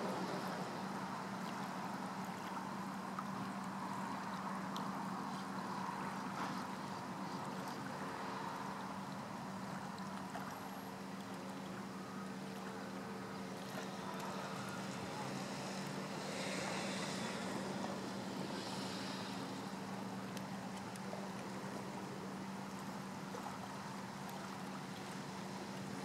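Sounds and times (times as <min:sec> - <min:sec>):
low mechanical hum: 0:00.0 - 0:26.0
wind: 0:00.0 - 0:26.0.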